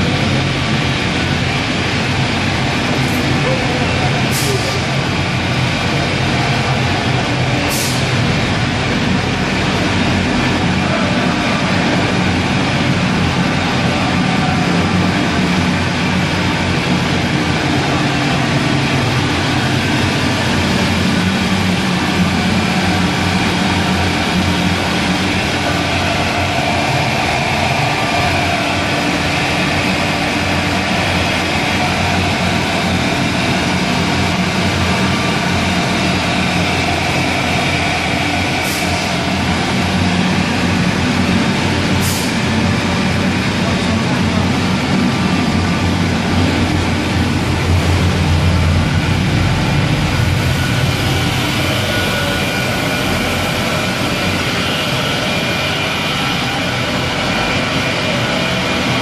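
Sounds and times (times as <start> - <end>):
machine fan drone: 0.0 - 59.0.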